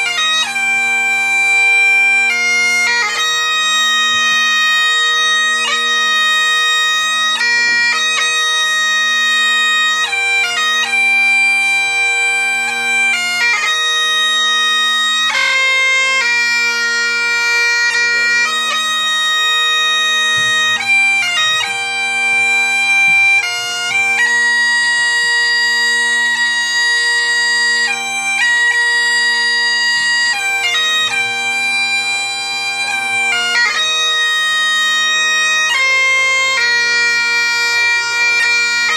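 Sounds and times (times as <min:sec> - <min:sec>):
bagpipes playing slow tune: 0:00.0 - 0:38.9.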